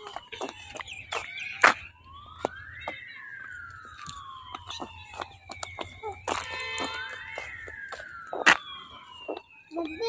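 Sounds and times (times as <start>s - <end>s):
footsteps on gritty road: 0.0s - 10.0s
siren wailing: 0.0s - 10.0s.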